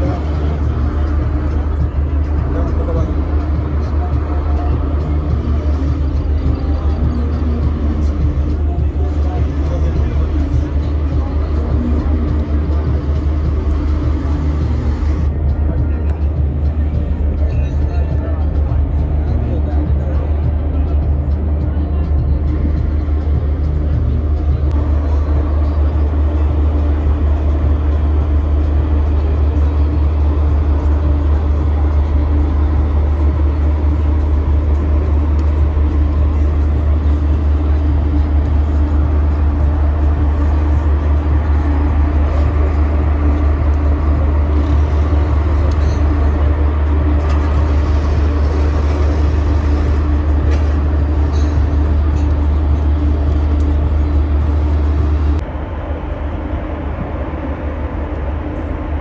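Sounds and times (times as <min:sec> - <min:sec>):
constant hum: 0:00.0 - 0:59.0
ferry engines droning: 0:00.0 - 0:59.0.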